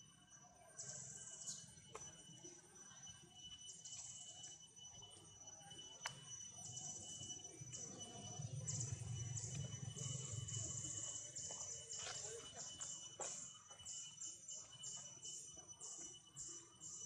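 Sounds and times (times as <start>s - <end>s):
cicadas buzzing in pulses: 0.0s - 17.0s
thin steady whine: 0.0s - 17.0s.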